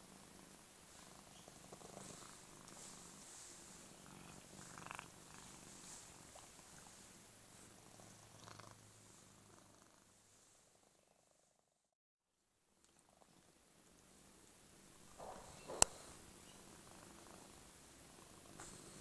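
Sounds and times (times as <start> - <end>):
cat purring: 0.0 - 11.9, 12.9 - 19.0.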